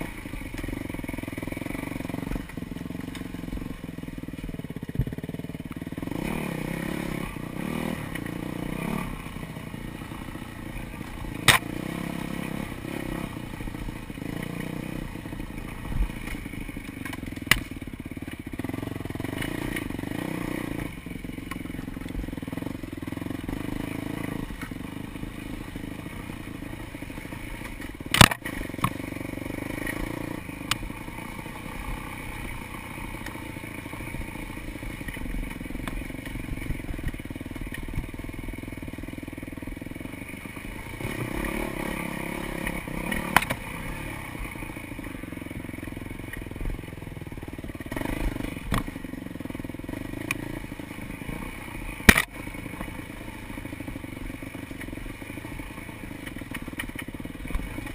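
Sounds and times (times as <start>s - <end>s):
bike rattling over bumps: 0.0s - 57.9s
dirt bike engine: 0.0s - 57.9s.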